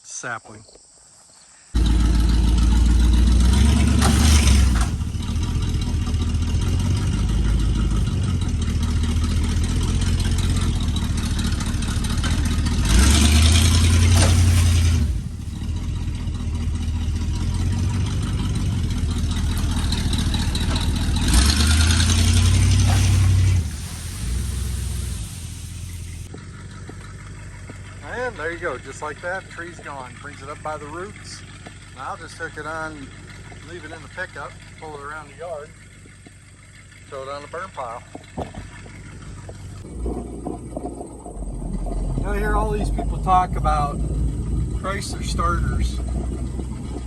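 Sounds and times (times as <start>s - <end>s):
pickup engine surging under load: 1.8s - 47.0s.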